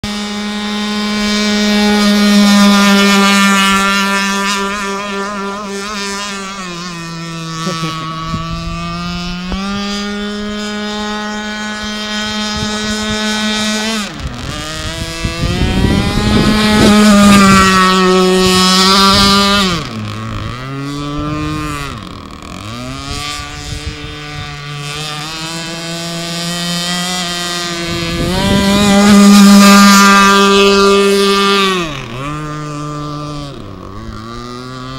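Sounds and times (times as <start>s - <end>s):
model boat engine revving: 0.0s - 34.9s.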